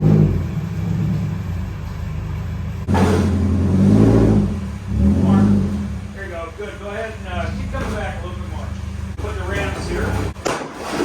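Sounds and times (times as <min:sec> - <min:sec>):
car engine with loud exhaust revving: 0:00.0 - 0:10.5.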